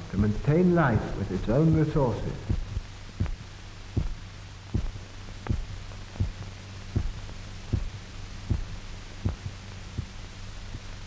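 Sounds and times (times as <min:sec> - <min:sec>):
low hum: 0:00.0 - 0:11.0
heartbeat thumping: 0:01.0 - 0:11.0.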